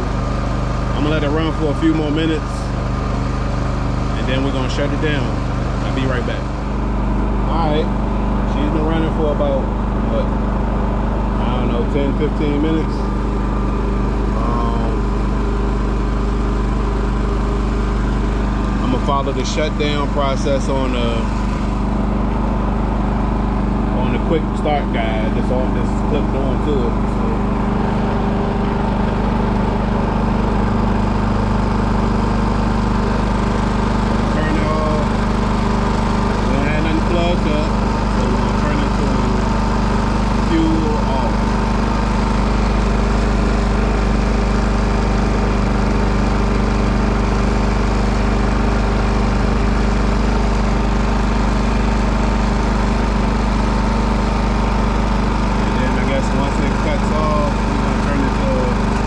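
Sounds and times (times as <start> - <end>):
generator engine hum: 0.0 - 59.0.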